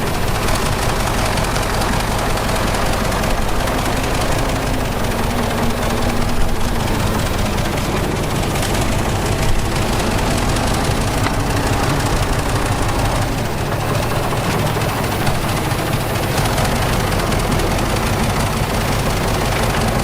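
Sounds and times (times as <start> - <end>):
diesel engine rumble: 0.0 - 20.0.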